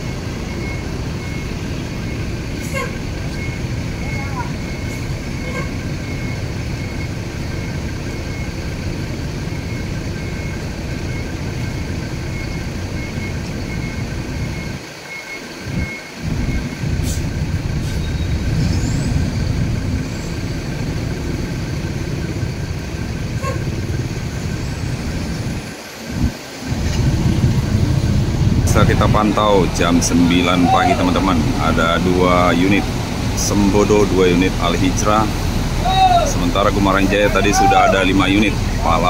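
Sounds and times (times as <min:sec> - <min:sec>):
diesel bus engine rumbling: 0:00.0 - 0:39.0.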